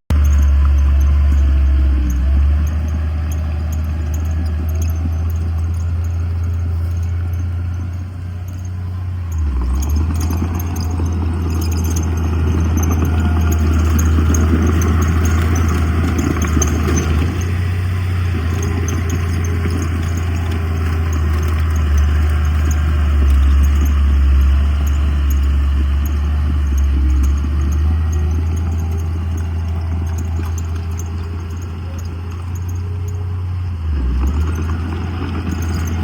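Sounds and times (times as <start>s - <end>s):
diesel earthmoving machinery drone: 0.1s - 36.0s
rattling and clatter: 0.1s - 36.0s.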